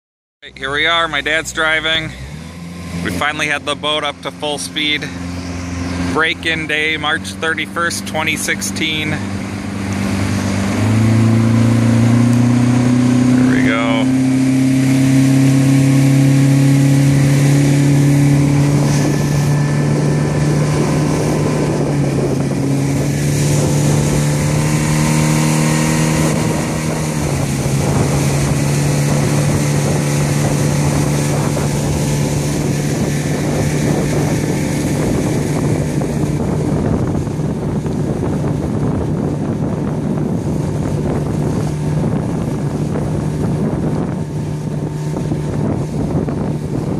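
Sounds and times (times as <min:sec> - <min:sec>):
outboard motor running: 0:00.4 - 0:46.9
water rushing past boat: 0:00.4 - 0:46.9.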